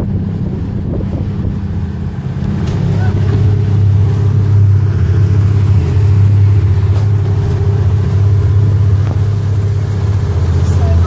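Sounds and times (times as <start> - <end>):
motorboat engine drone: 0.0 - 11.0.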